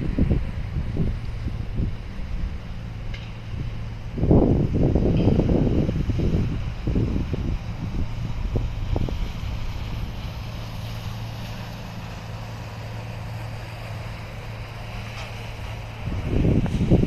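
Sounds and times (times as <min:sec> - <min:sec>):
ship engines humming: 0:00.0 - 0:17.0
wind hiss: 0:00.0 - 0:17.0.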